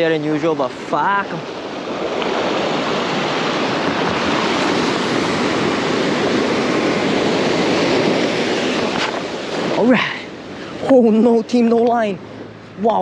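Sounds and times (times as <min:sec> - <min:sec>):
ocean surf breaking on shore: 0:00.0 - 0:13.0.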